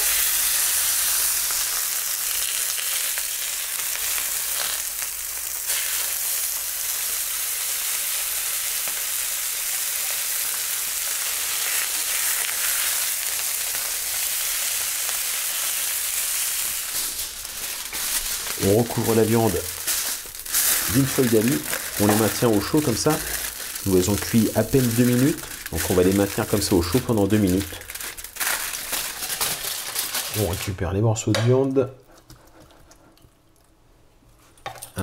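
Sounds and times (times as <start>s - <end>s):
steaks sizzling on a hot plate: 0.0s - 29.2s.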